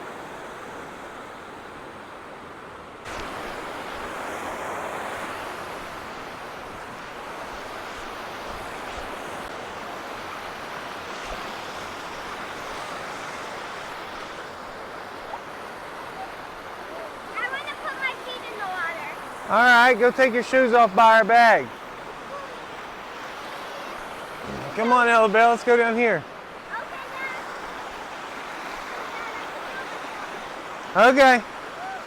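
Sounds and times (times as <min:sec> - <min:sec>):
waterfall and river rushing: 0:00.0 - 0:32.0.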